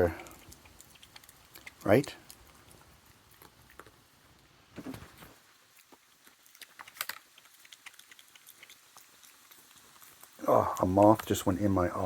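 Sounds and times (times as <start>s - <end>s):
peanut shells cracking: 0.0s - 4.1s, 5.6s - 11.6s.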